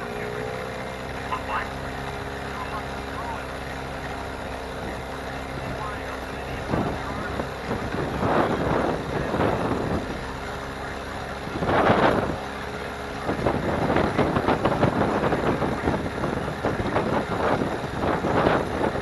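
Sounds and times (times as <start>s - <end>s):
outboard motor running: 0.0s - 19.0s
wind buffeting microphone: 2.0s - 19.0s.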